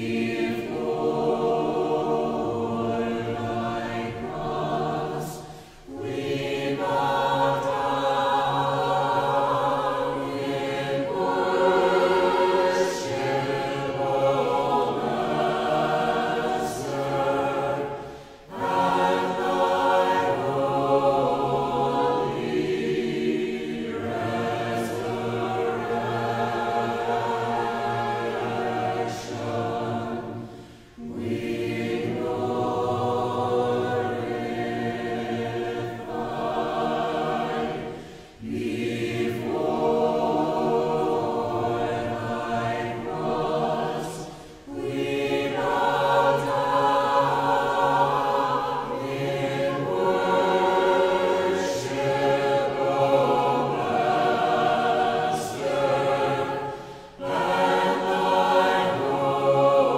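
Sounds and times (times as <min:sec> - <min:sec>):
choir chanting a cappella: 0:00.0 - 0:59.9.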